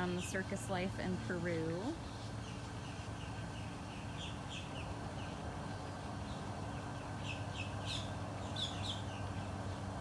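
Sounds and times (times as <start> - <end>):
outdoor background noise: 0.0 - 10.0
small bird chirping: 2.0 - 10.0.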